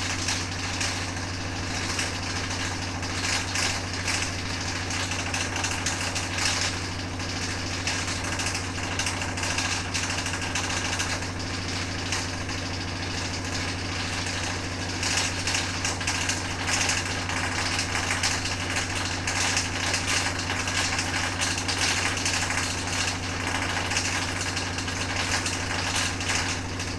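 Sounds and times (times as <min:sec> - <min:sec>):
washing machine motor hum: 0:00.0 - 0:26.9.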